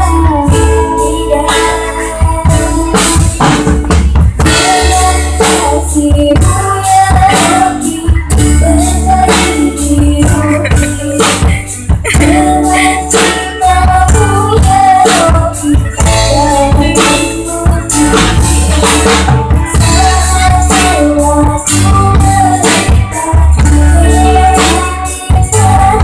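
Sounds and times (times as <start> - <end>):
backing music with heavy bass: 0.0 - 26.0
child singing: 0.0 - 26.0
drums: 0.0 - 26.0.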